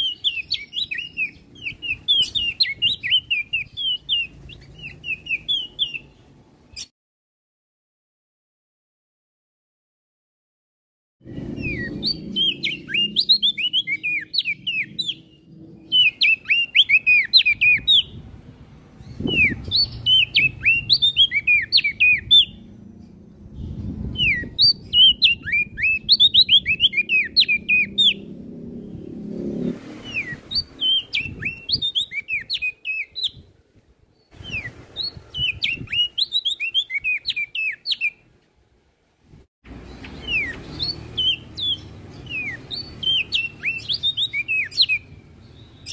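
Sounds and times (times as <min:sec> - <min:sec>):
songbird chirping: 0:00.0 - 0:06.9, 0:11.2 - 0:38.6, 0:39.7 - 0:45.9.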